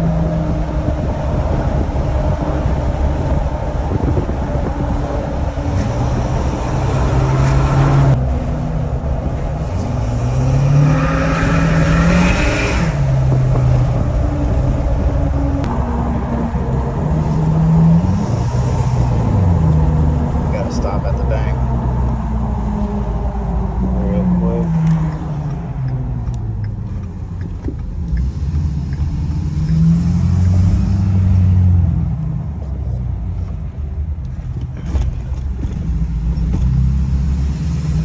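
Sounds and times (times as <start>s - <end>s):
diesel truck accelerating: 0.0s - 38.0s.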